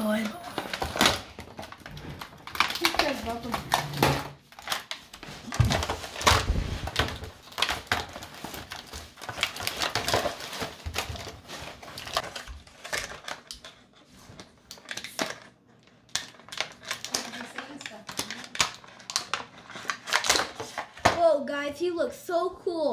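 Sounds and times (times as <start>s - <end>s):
plastic packaging crinkling: 0.0s - 21.1s.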